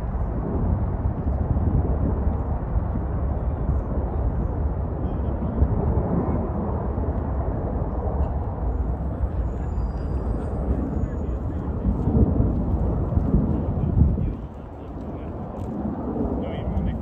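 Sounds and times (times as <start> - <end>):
aircraft rotors rumbling overhead: 0.0 - 17.0.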